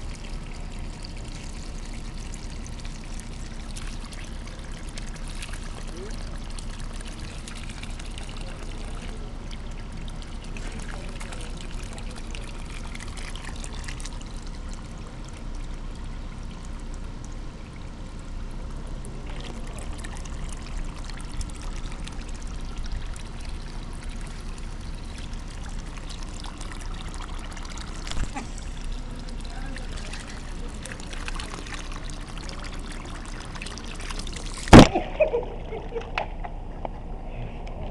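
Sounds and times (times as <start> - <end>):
hose water splashing into puddle: 0.0 - 17.8, 19.0 - 35.5.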